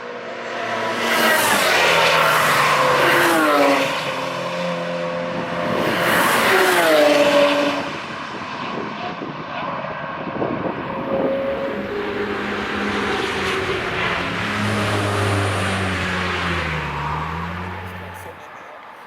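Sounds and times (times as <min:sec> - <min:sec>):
cars passing at speed: 0:00.0 - 0:19.0.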